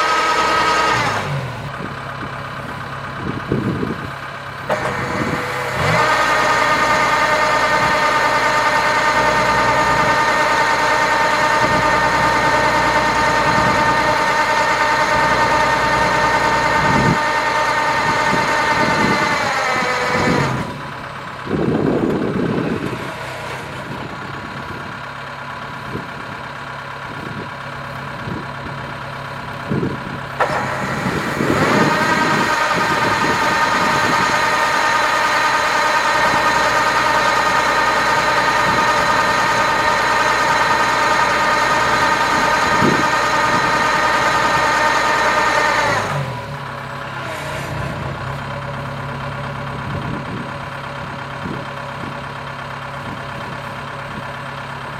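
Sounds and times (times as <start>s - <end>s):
combine harvester engine running: 0.0s - 54.9s.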